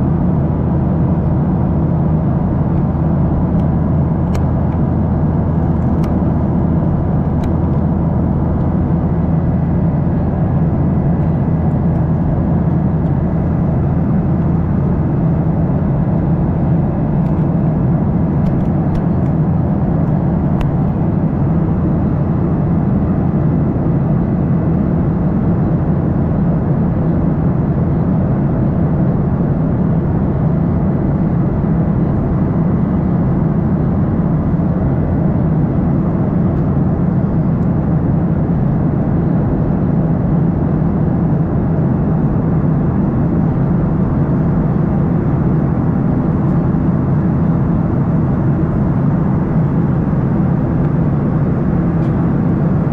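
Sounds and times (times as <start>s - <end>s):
airplane cabin engine drone: 0.0s - 52.9s.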